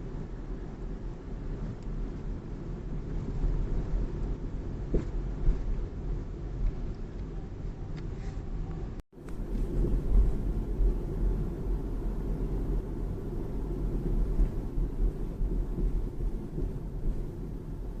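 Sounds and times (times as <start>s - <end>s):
car road noise rumble: 0.0s - 18.0s.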